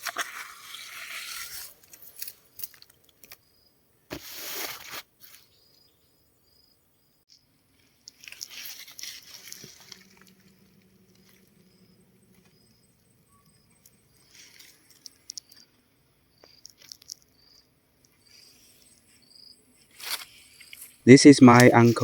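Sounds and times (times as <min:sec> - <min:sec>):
faint rustling and crunching: 0:00.0 - 0:03.5, 0:04.1 - 0:05.8, 0:07.3 - 0:22.0
insects chirping: 0:00.0 - 0:22.0.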